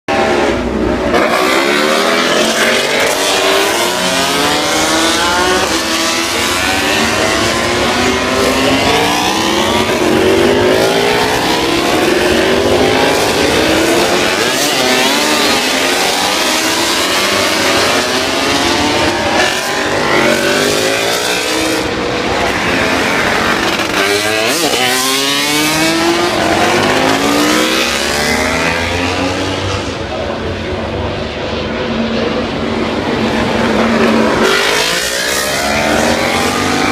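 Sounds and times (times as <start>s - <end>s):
racing motorcycles revving: 0.1s - 36.9s.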